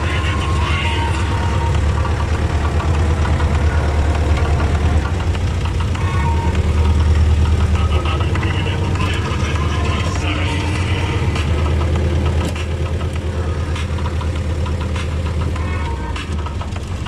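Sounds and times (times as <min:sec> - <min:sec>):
tractor diesel engine knocking: 0:00.0 - 0:17.0.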